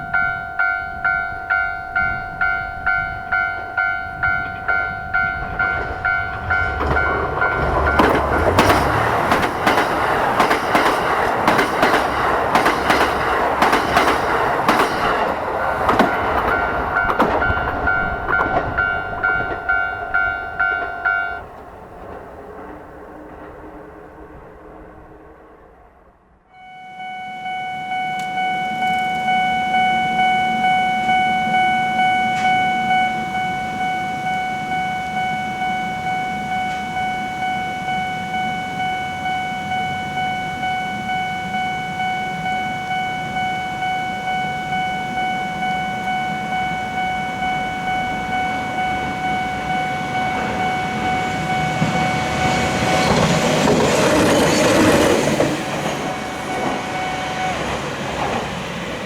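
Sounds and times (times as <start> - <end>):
level crossing warning bell: 0.0 - 22.0, 26.6 - 59.0
passing train rumble and rail noise: 0.0 - 59.0.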